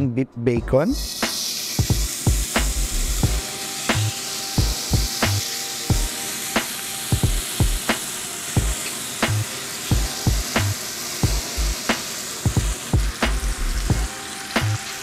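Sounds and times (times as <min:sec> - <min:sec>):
bacon sizzling in a pan: 0:01.0 - 0:15.0.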